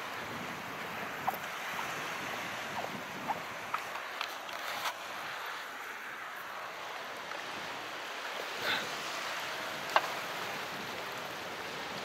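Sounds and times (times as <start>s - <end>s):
small waves washing: 0.0s - 12.0s.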